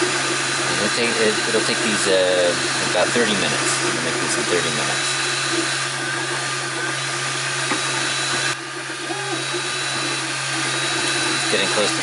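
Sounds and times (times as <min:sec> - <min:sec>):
fan hum: 0:00.0 - 0:12.0
stepper motors whirring: 0:00.0 - 0:12.0.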